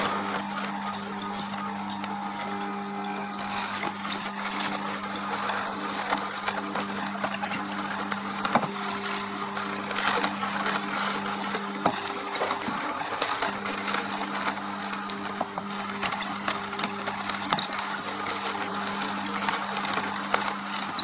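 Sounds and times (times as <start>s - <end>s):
celery crunching and snapping: 0.0s - 21.0s
juicer motor hum: 0.0s - 21.0s.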